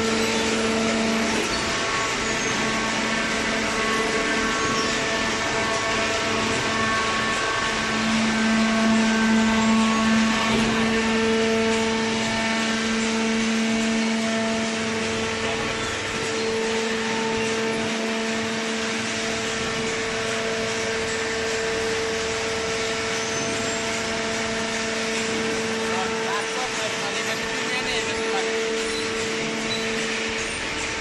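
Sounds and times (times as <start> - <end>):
baler motor and pump hum: 0.0 - 31.0.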